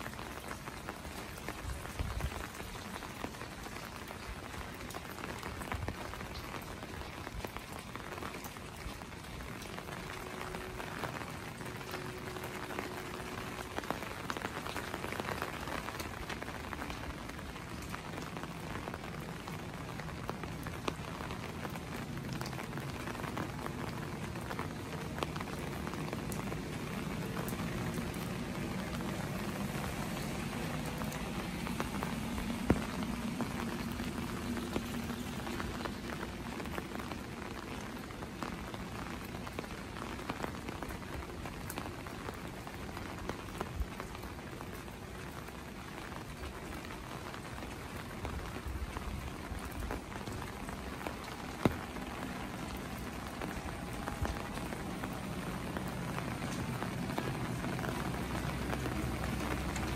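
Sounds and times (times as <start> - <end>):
steady rain on wet streets: 0.0 - 59.9.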